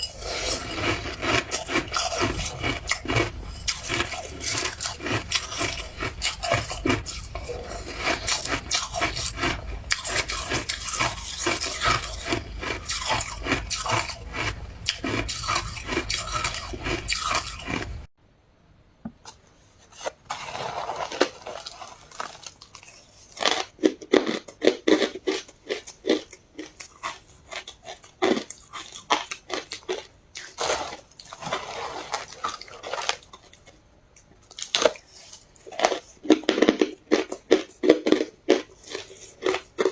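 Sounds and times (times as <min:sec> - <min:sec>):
ice being chewed: 0:00.0 - 0:18.1, 0:20.0 - 0:39.9.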